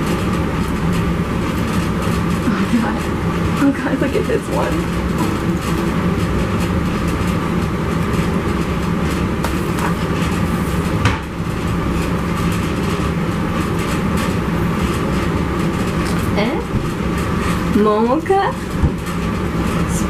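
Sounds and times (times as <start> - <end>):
loud mechanical rumble and hum: 0.0 - 20.0.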